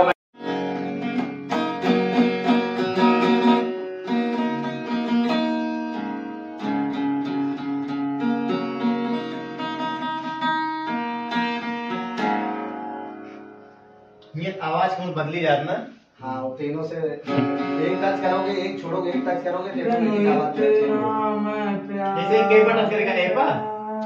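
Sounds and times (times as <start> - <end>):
guitar plucked melody: 0.0 - 14.3, 17.2 - 24.0.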